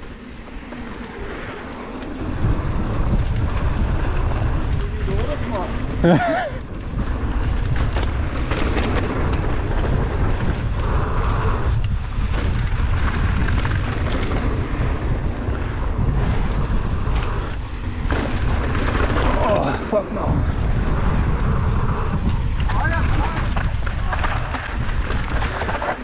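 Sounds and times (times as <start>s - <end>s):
bike rattling over bumps: 0.0s - 26.0s
bike tyre noise on dirt: 0.0s - 26.0s
wind buffeting microphone: 0.0s - 26.0s.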